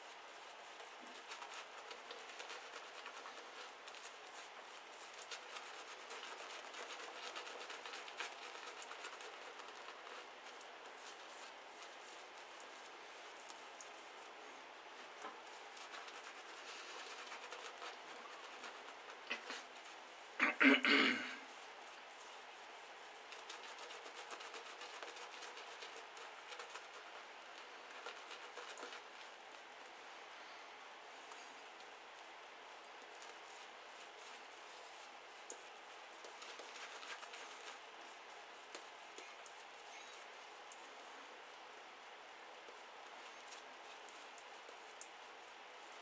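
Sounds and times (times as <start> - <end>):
shaving brush scrubbing stubble: 0.0 - 30.0, 31.0 - 46.0.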